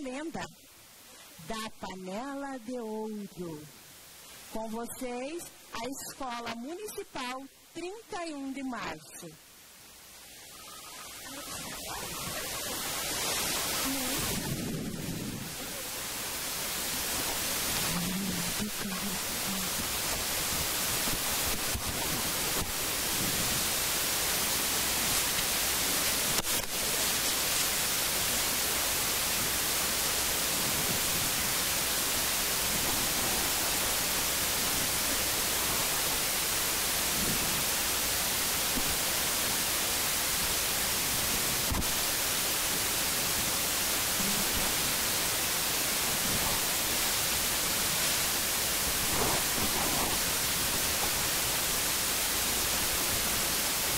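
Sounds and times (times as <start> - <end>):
steady hiss: 0.0 - 53.9.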